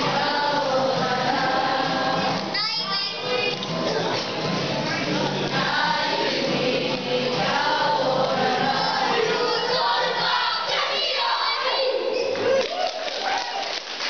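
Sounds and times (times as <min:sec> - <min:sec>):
children singing together: 0:00.0 - 0:12.4.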